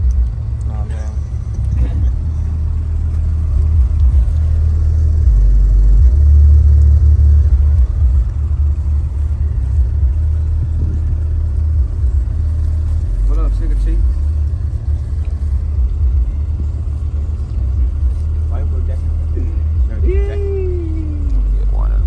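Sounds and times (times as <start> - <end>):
deep bass from car subwoofers: 0.0 - 22.0.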